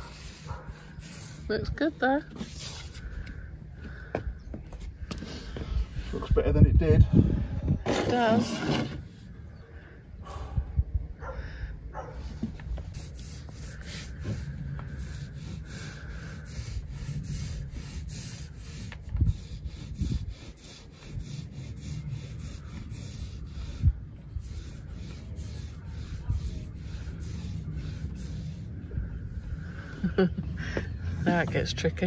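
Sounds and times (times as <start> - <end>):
hand rubbing wooden deck: 0.0 - 9.4, 12.0 - 32.0.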